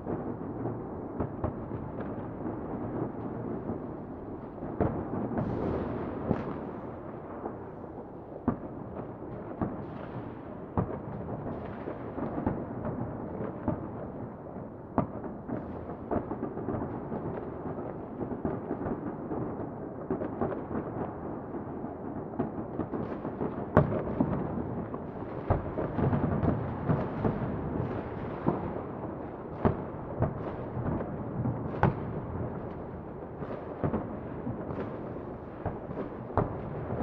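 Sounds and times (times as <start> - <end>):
distant fireworks rumbling: 0.0 - 37.0.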